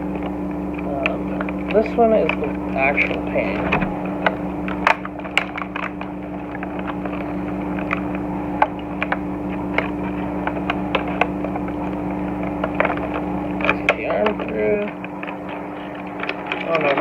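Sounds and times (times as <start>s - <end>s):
cardboard packaging rustling: 0.0s - 17.0s
steady background hum: 0.0s - 17.0s.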